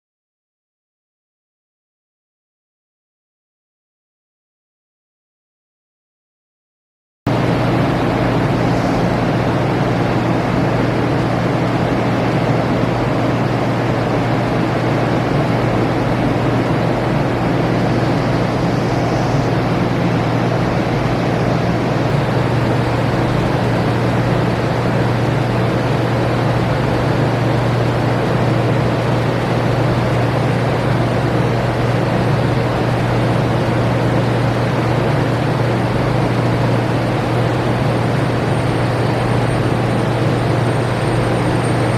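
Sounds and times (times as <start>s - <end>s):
helicopter drone: 7.3s - 41.9s.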